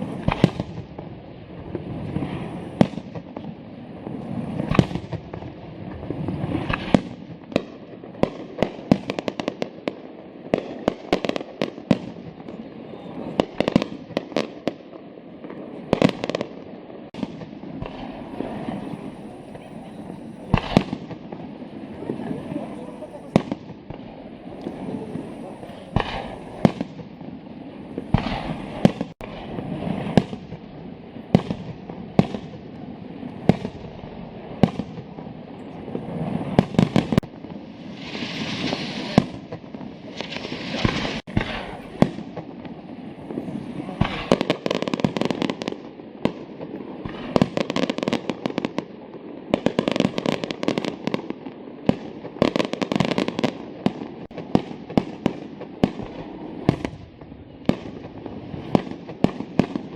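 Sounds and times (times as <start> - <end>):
firework bangs: 0.0 - 59.9
fireworks crackling and hissing: 0.0 - 59.9.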